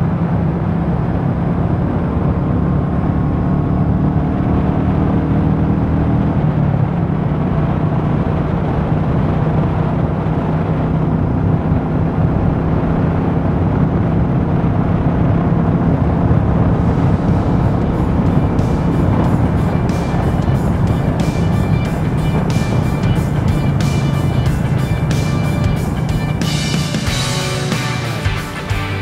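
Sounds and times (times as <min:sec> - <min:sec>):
wind rushing over microphone: 0:00.0 - 0:27.3
motorcycle engine running: 0:01.4 - 0:29.0.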